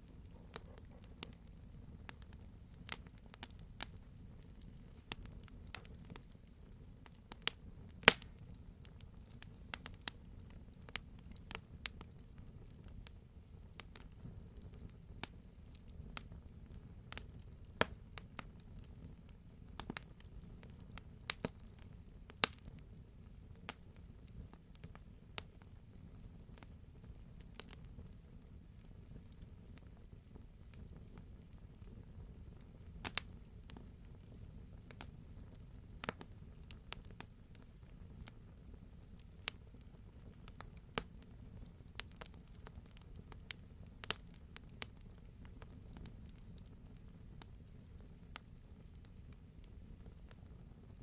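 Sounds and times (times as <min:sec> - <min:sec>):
campfire crackling and popping: 0:00.0 - 0:51.0
low rumble of burning: 0:00.0 - 0:51.0.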